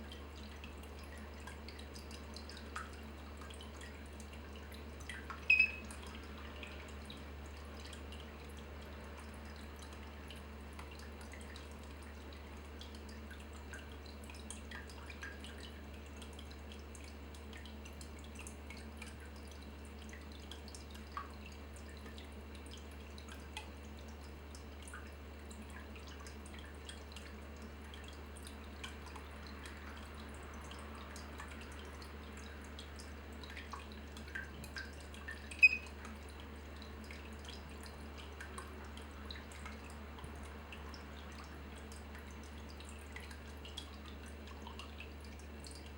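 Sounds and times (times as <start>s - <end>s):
low steady hum: 0.0s - 45.9s
water dripping: 0.0s - 45.9s.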